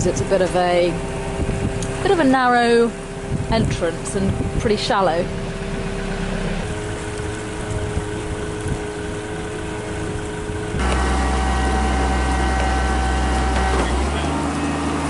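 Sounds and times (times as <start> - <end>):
boat engine running: 0.0 - 15.0
travel lift engine hum: 0.0 - 15.0.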